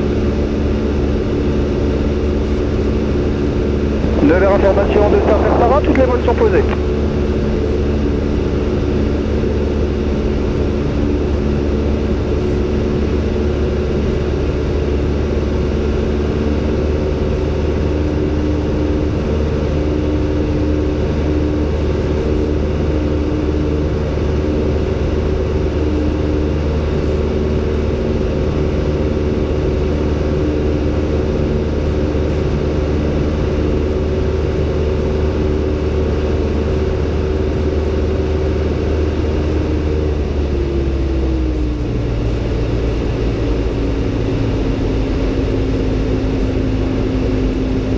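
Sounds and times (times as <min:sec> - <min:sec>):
aircraft engine and propeller drone: 0:00.0 - 0:47.9.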